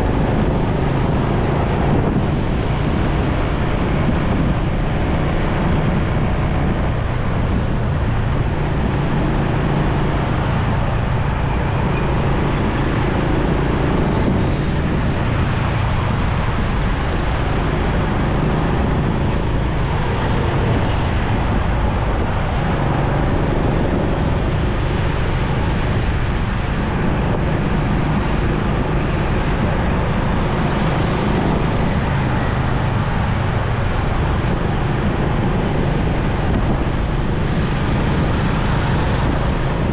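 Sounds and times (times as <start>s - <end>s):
motorcycle engine drone: 0.0s - 39.9s
road and wind noise: 0.0s - 39.9s.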